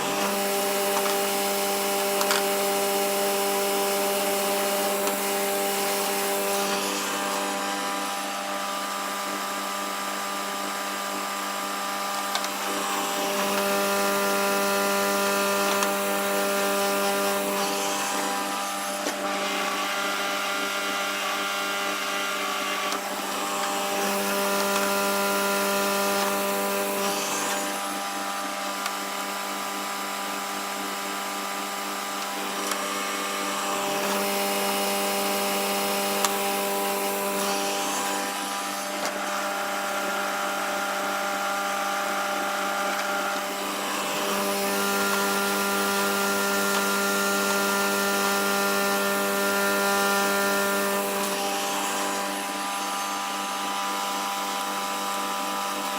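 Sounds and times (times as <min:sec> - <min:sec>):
table saw cutting wood: 0:00.0 - 0:55.9.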